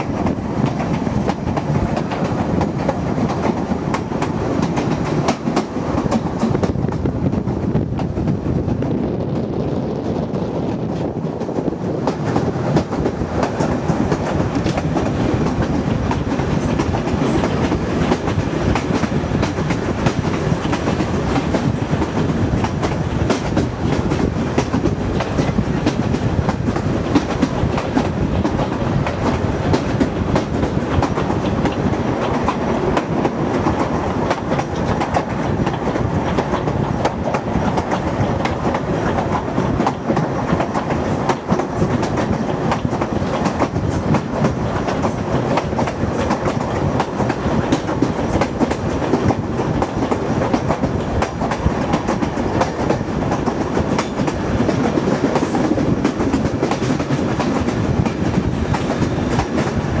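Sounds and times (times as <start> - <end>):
train rolling on track: 0.0 - 60.0.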